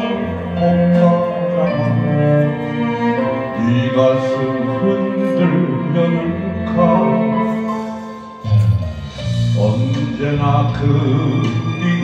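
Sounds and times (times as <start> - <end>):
bowed-string melody over bass: 0.0 - 12.0.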